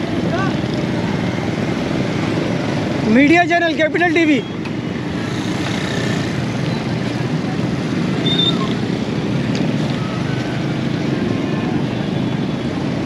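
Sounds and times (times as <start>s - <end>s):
vehicle engines running: 0.0s - 13.0s.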